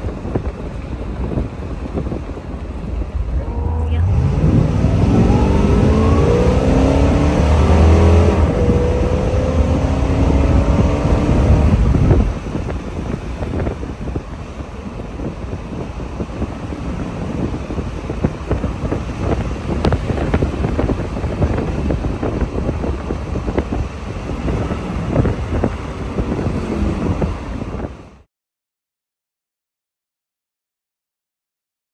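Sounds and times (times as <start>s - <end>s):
exhaust crackles: 0.0s - 28.1s
engine pulling hard: 0.0s - 28.2s
wind noise: 0.0s - 28.3s.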